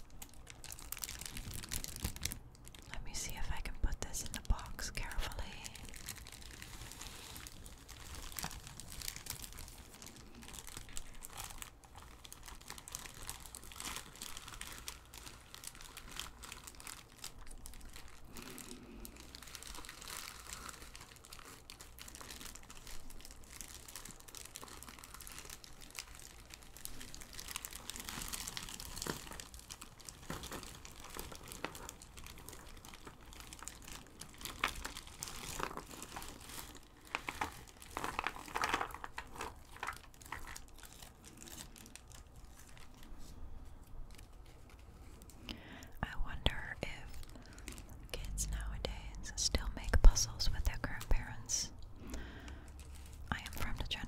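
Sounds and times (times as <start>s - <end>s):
plastic bag crinkling: 0.0s - 54.0s.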